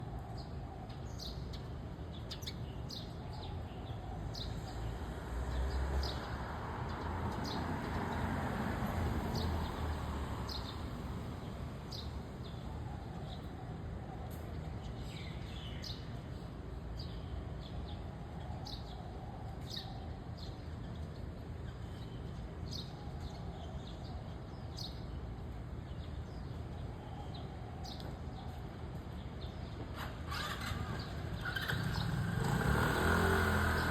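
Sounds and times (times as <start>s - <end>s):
sparrows chirping: 0.0s - 33.9s.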